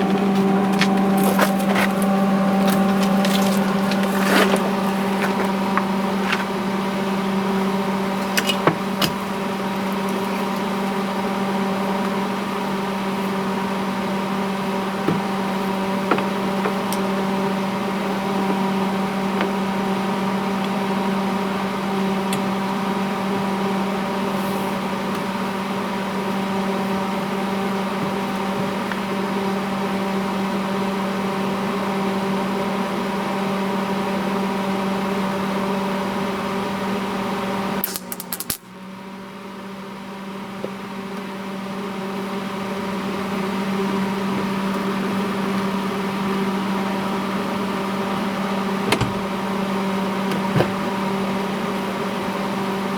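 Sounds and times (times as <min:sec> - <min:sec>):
steady machine hum: 0:00.0 - 0:52.9.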